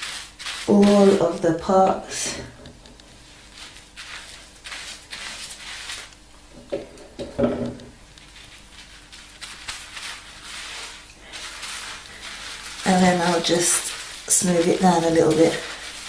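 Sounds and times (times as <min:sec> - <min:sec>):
fingers rubbing lathered hair: 0:00.0 - 0:07.2, 0:07.8 - 0:16.0.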